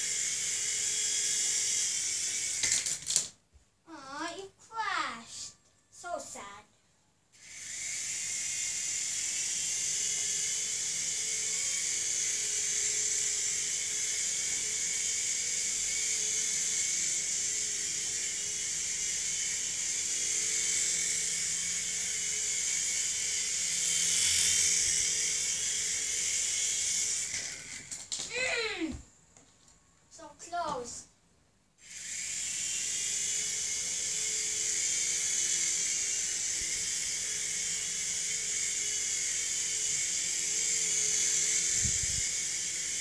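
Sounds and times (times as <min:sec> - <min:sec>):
toy helicopter rotors whirring: 0:00.0 - 0:03.4, 0:04.1 - 0:06.6, 0:07.3 - 0:28.9, 0:31.8 - 0:43.0.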